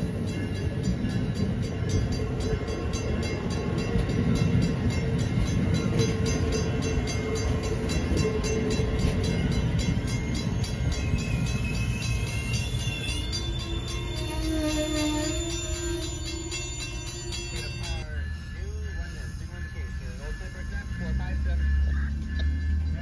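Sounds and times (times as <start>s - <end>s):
regular rail clicking: 0.0s - 23.0s
train wheels rumbling on track: 0.0s - 23.0s
high wheel squeal: 2.0s - 23.0s.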